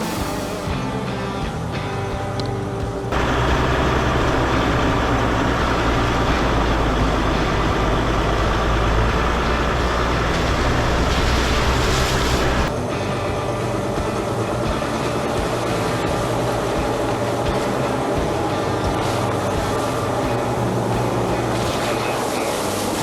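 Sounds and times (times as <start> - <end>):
van driving rumble: 2.0 - 23.0.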